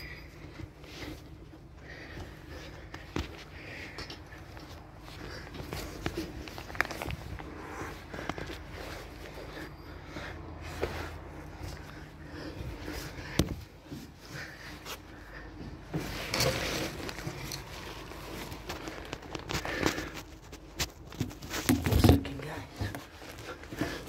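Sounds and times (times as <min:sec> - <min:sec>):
clothing rustle: 0:00.0 - 0:24.0
footsteps on scaffolding: 0:00.4 - 0:24.0.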